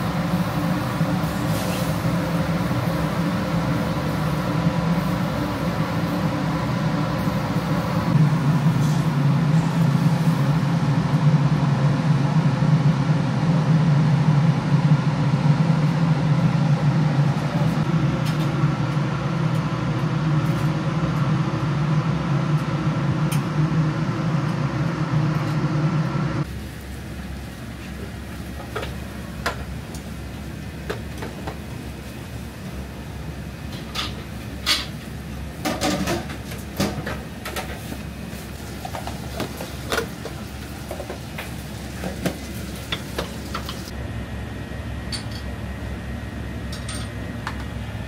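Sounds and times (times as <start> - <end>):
exhaust hood fan drone: 0.0 - 48.0.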